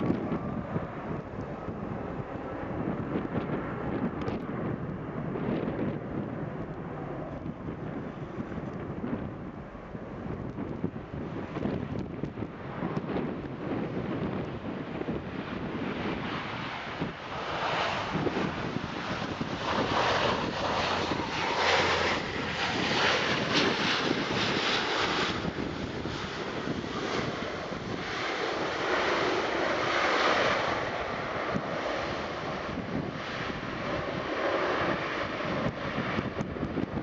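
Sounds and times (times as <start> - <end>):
jet engines at takeoff power: 0.0 - 37.0
wind buffeting microphone: 0.0 - 37.0.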